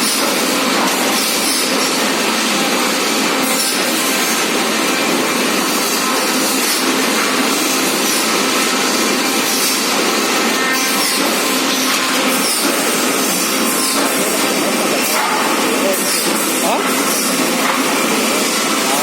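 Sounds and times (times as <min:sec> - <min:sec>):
forklift machine noise: 0:00.0 - 0:19.0.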